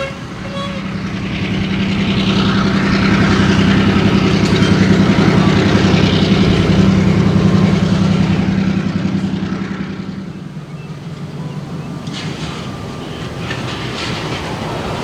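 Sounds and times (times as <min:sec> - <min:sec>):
diesel locomotive engine pulsing: 0:00.0 - 0:15.0.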